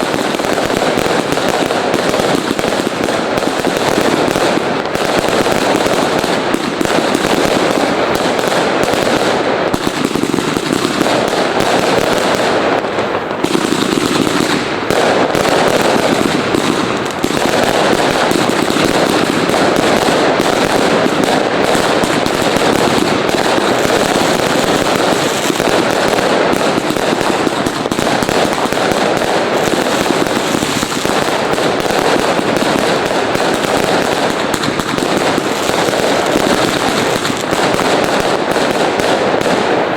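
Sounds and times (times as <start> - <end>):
fireworks and firecrackers barrage: 0.0 - 39.9.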